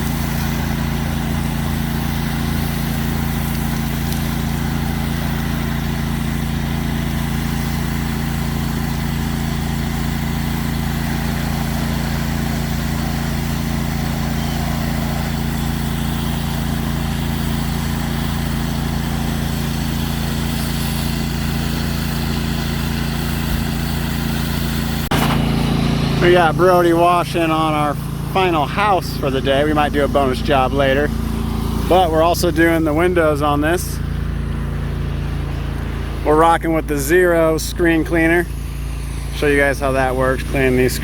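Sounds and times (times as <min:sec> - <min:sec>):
pressure washer engine running: 0:00.0 - 0:41.0.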